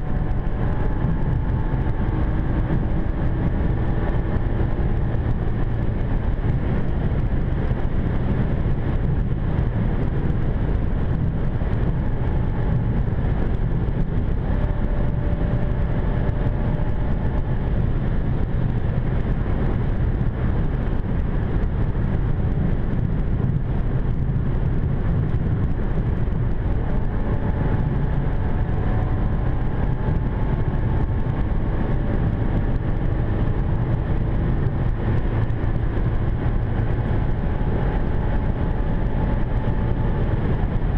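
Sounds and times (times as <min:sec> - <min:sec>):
road and engine noise inside car: 0:00.0 - 0:40.9.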